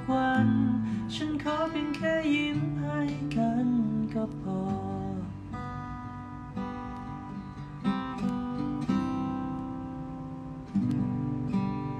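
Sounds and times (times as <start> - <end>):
acoustic guitar strumming: 0.0 - 11.9.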